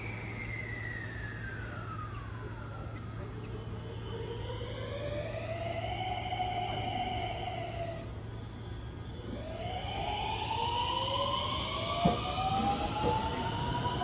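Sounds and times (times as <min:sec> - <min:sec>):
gliding whining tone: 0:00.0 - 0:14.0.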